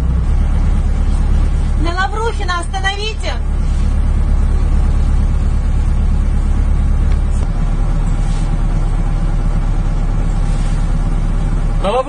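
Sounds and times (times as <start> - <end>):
minibus engine and road rumble: 0.0 - 12.0.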